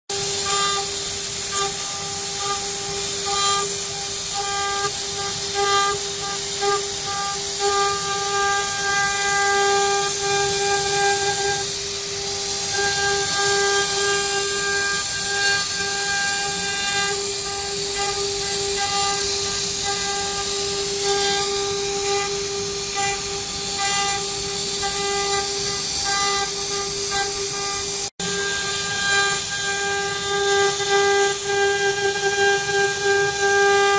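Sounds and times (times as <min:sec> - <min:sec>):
router spindle whine: 0:00.1 - 0:33.9.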